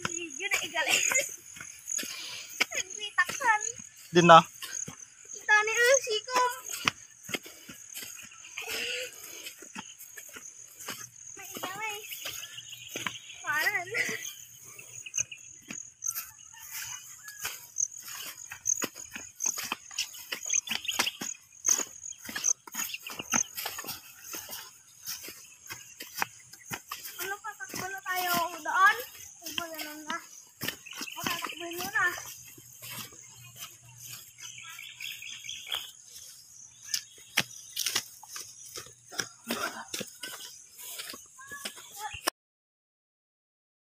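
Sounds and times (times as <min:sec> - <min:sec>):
insect chirping: 0:00.0 - 0:42.2.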